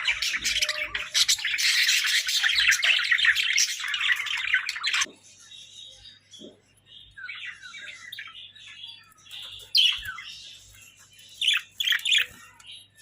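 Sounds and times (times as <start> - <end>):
budgerigars chirping and warbling: 0.0 - 13.0.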